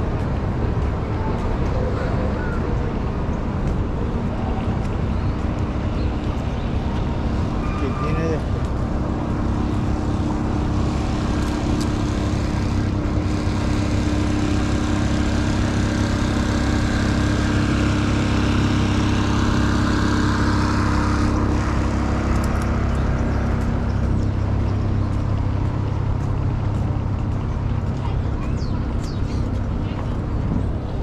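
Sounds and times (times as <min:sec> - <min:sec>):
subway train rumble: 0:00.0 - 0:31.0.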